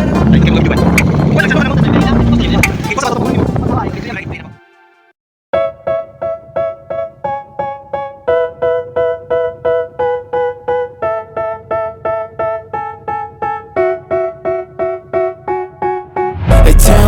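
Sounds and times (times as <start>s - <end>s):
keyboard playing repeated chords: 0.0s - 17.0s.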